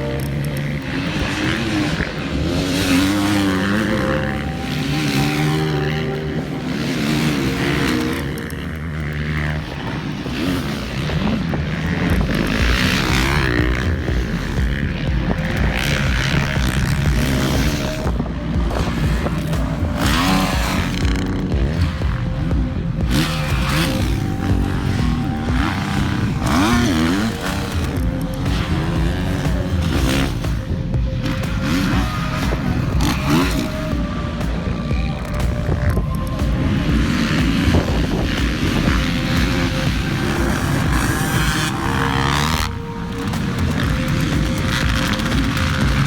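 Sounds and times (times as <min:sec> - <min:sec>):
motocross bike engines revving: 0:00.0 - 0:46.0.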